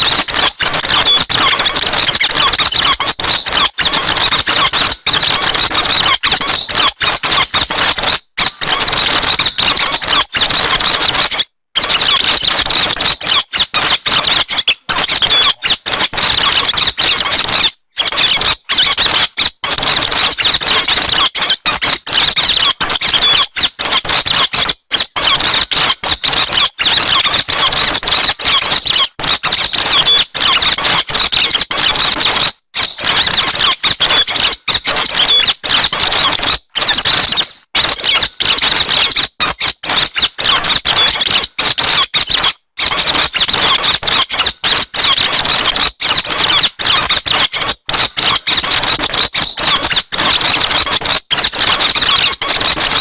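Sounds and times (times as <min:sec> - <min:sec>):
high-pitched squeaky bird chattering: 0:00.0 - 0:53.0.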